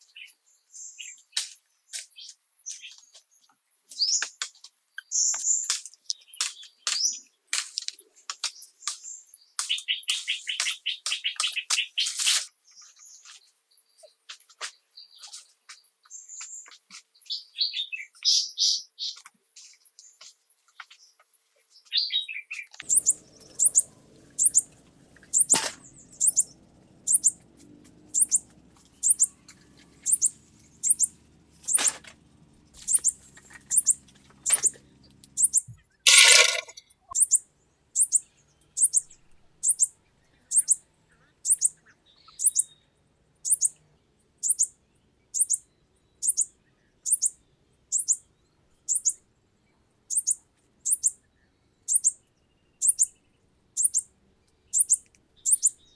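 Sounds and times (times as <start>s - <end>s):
small bird chirping: 0.0s - 49.3s, 50.1s - 55.9s.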